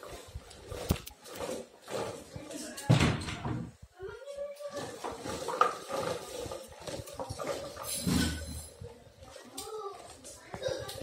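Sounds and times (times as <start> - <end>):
plastic toy rolling on tiles: 0.0 - 11.0.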